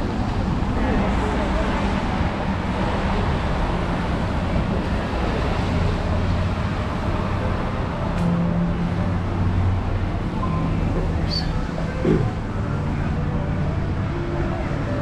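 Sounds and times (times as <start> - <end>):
low engine hum: 0.0 - 15.0
road traffic rumble: 0.0 - 15.0.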